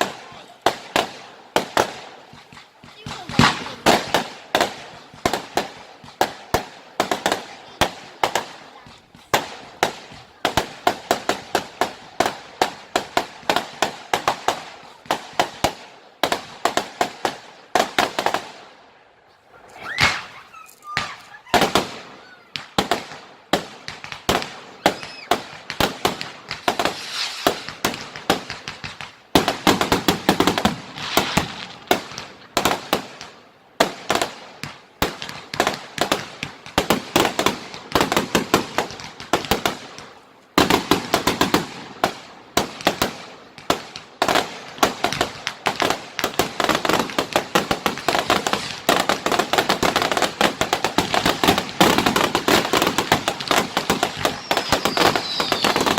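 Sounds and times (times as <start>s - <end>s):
firework bangs and crackling: 0.0s - 55.9s.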